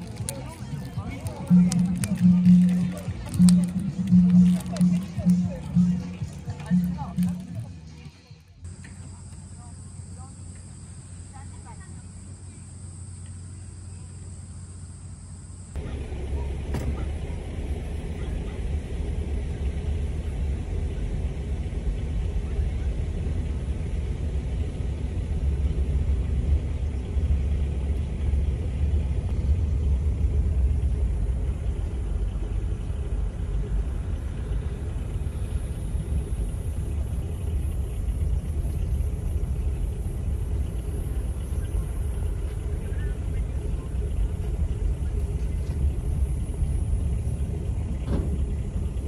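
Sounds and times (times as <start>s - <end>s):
motor vehicle rumbling: 0.0s - 49.0s.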